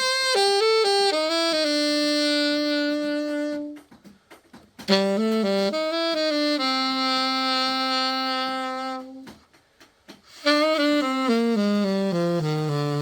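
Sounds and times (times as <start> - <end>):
alto saxophone notes: 0.0 - 4.1, 4.8 - 9.5, 10.3 - 13.0.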